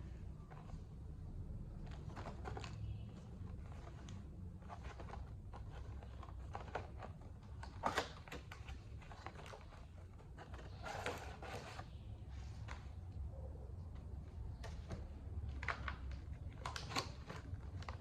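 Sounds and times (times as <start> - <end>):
low steady hum: 0.0 - 18.0
packaging clicks and rustles: 0.1 - 18.0.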